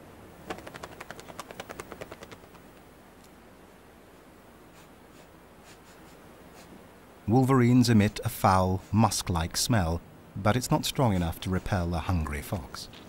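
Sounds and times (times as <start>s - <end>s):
faint low background noise: 0.0s - 13.0s.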